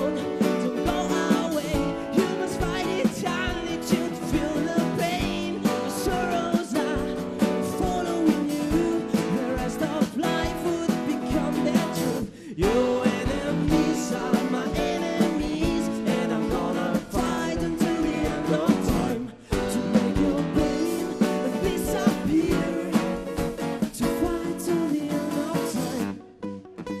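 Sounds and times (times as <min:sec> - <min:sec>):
person singing: 0:00.0 - 0:26.2
strummed guitar: 0:00.0 - 0:27.0.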